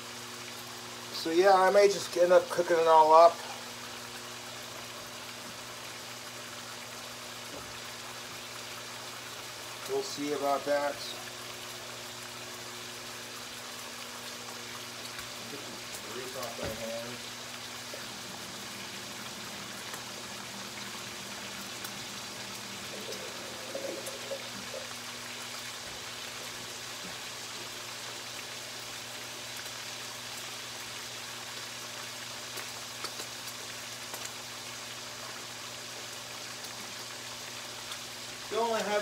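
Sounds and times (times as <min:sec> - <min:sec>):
bacon sizzling and popping: 0:00.0 - 0:39.0.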